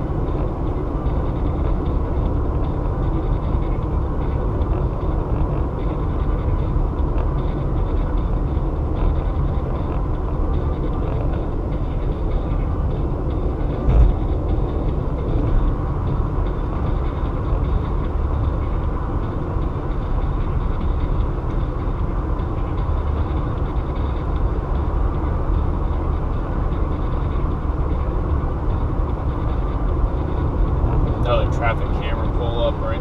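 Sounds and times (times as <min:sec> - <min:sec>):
road and tyre noise: 0:00.0 - 0:33.0.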